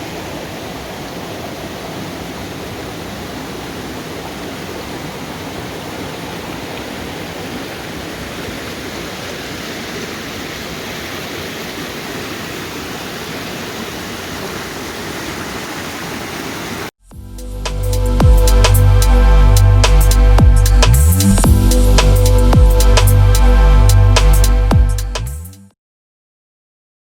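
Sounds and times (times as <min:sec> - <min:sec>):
waterfall rushing: 0:00.0 - 0:16.9, 0:17.8 - 0:24.0.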